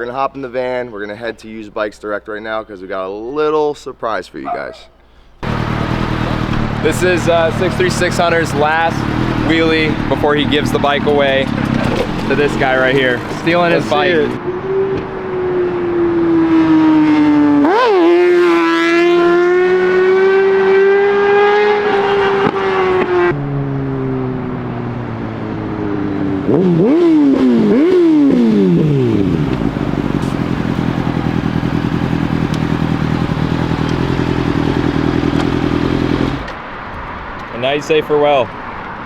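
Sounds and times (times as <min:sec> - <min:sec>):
motorcycle engine revving: 0:05.4 - 0:37.4.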